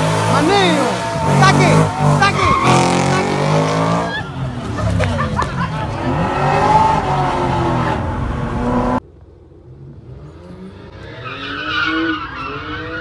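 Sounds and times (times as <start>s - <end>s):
loud car engine revving: 0.0s - 9.0s, 9.6s - 13.0s
car engine accelerating: 0.0s - 13.0s.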